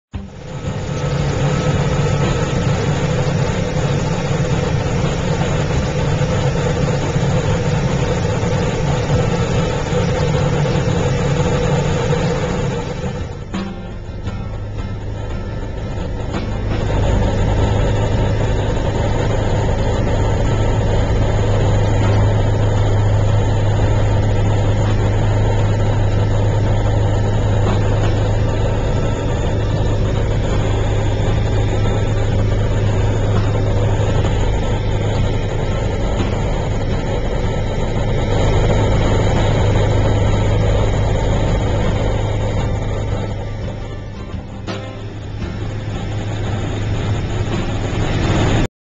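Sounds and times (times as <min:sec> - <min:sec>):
aircraft engines droning in cabin: 0:00.0 - 0:48.7.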